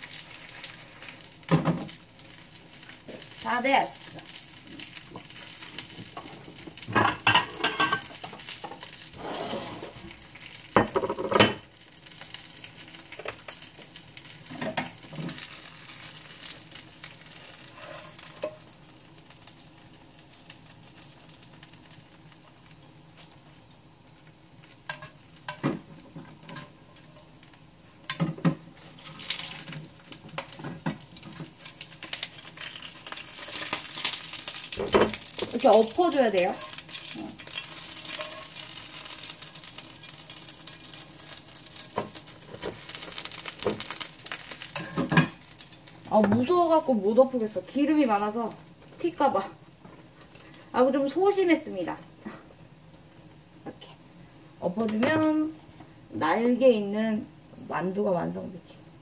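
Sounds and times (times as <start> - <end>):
food sizzling in oil: 0.0 - 59.0.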